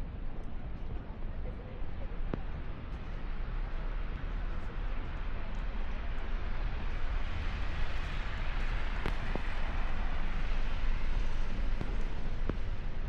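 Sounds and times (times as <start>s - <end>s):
steady rush of noise: 0.0s - 13.0s.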